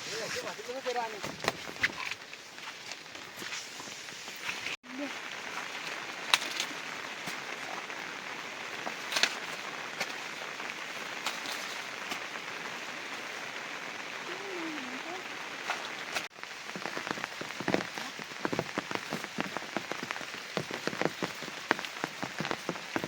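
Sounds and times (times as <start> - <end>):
heavy rain falling: 0.0 - 23.0
sharp raindrops striking: 0.1 - 23.0.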